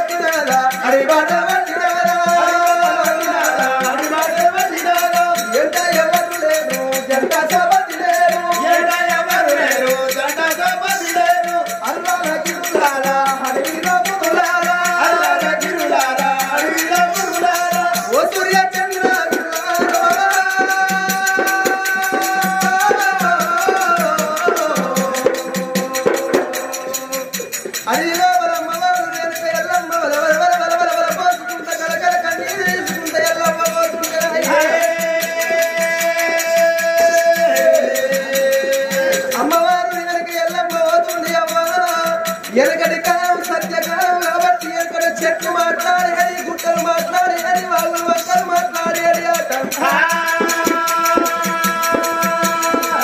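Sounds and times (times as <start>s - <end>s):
fast steady percussion: 0.0s - 53.0s
jingling rattle: 0.0s - 53.0s
person singing: 0.0s - 53.0s.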